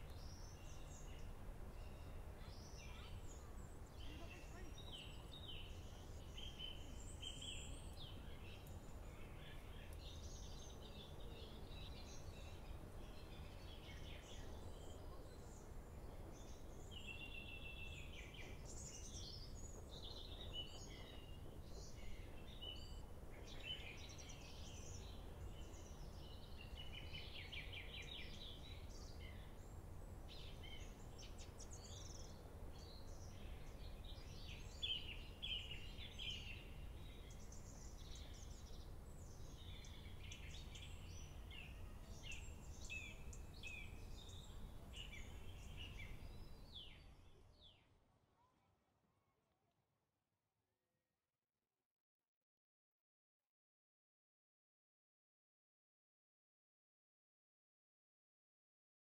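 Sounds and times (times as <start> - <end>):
small birds chirping: 0.0 - 48.5.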